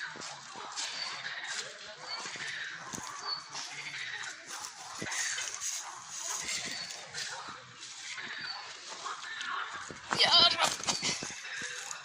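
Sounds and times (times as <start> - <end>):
frogs croaking: 0.0 - 9.9.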